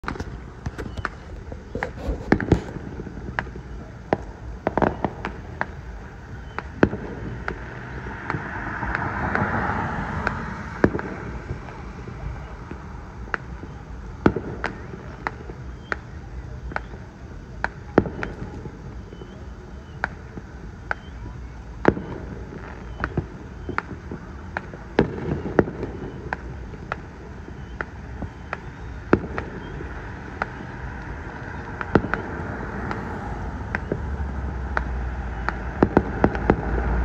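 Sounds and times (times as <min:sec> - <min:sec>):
fireworks bangs and pops: 0:00.0 - 0:37.0
fireworks hiss: 0:00.0 - 0:37.0.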